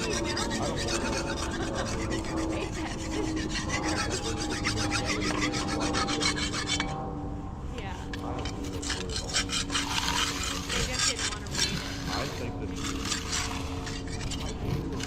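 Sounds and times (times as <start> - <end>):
hand tool scraping concrete: 0.0 - 7.0, 7.8 - 15.0
faint machine hum: 0.0 - 15.0.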